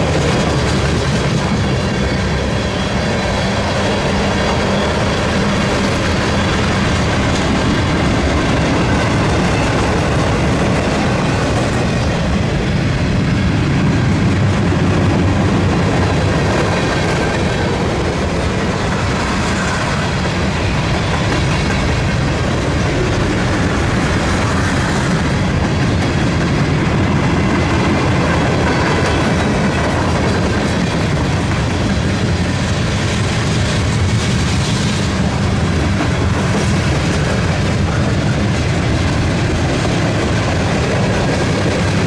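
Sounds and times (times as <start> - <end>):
train wheels rolling on rails: 0.0 - 42.0.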